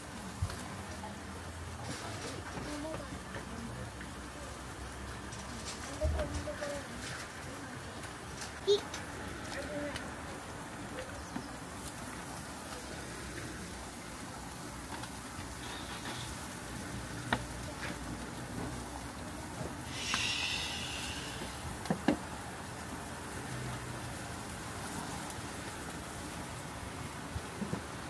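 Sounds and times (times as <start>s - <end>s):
skewers sizzling on grill: 0.0s - 28.0s.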